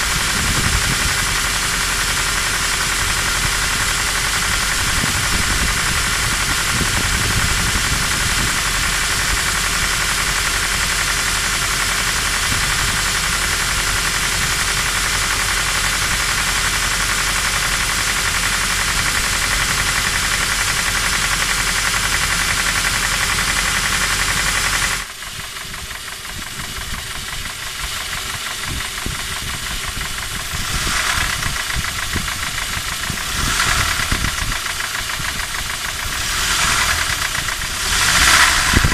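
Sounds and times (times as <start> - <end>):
engine running with knock: 0.0 - 38.9.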